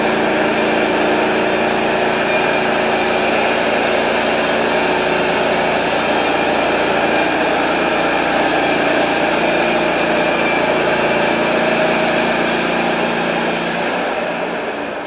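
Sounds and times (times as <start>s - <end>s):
band saw cutting log: 0.0s - 14.7s
sawmill engine running: 0.0s - 15.0s.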